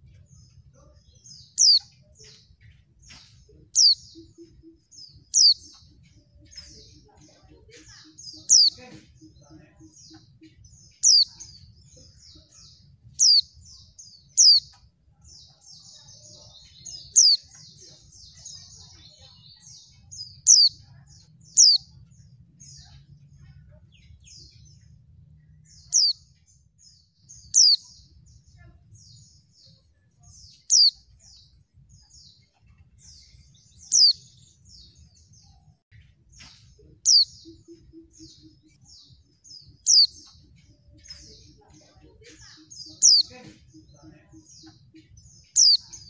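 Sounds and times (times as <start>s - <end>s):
bird twittering chatter: 0.0s - 46.0s.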